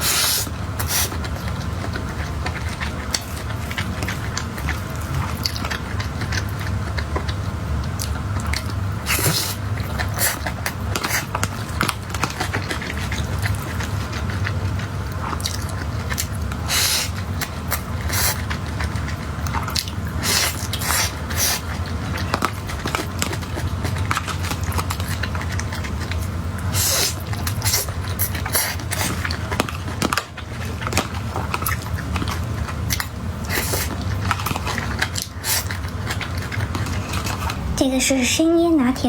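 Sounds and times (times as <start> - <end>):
steady low hum: 0.0 - 39.0
chewing and wet mouth smacks: 0.8 - 37.6.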